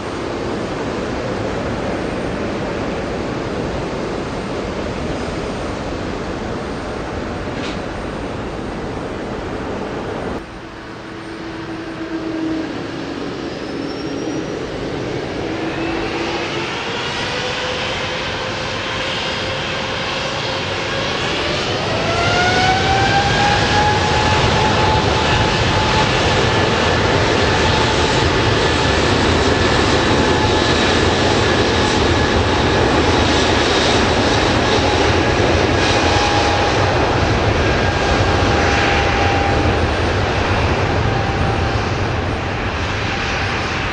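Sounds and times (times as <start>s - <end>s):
jet engines spooling up: 0.0s - 43.9s.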